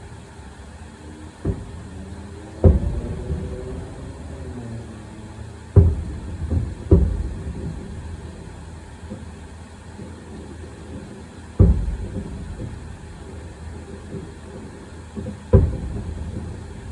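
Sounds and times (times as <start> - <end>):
fireworks booming: 0.0 - 16.9.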